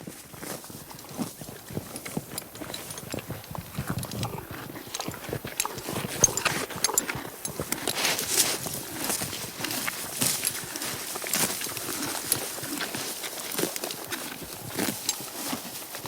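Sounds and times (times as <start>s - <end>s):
horse chewing grass: 0.0s - 16.0s.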